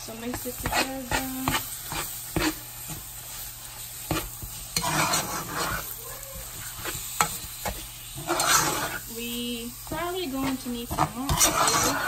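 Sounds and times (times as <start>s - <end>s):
food sizzling in oil: 0.0s - 12.0s
spoon scraping metal pot: 0.2s - 3.1s, 4.0s - 9.1s, 10.2s - 12.0s.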